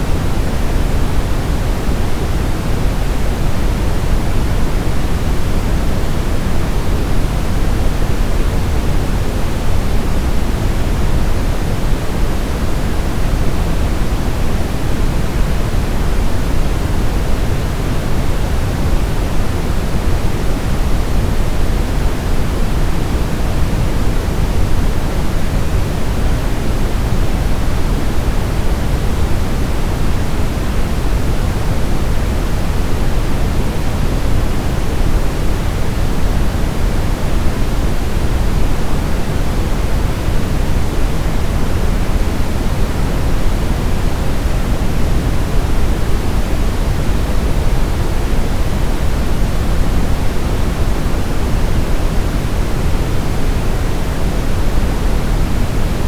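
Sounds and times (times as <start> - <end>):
low pink noise hiss: 0.0 - 56.0.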